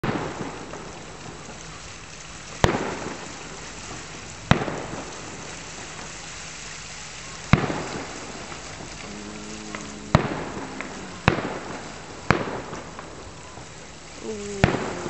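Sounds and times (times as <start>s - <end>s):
fireworks booming with echo: 0.0s - 15.0s
fireworks crackling: 0.0s - 15.0s.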